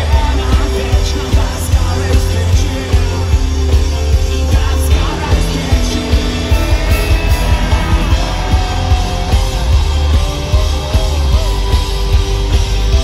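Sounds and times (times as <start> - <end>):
live rock band: 0.0 - 13.0.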